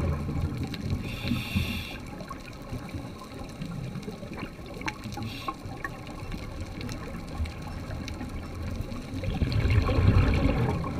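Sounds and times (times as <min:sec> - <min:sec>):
underwater regulator exhaust bubbles: 0:00.0 - 0:10.9.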